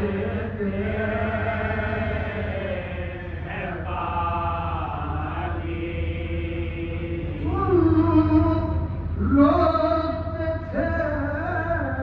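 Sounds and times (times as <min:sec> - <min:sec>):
men chanting through microphone: 0:00.0 - 0:12.0.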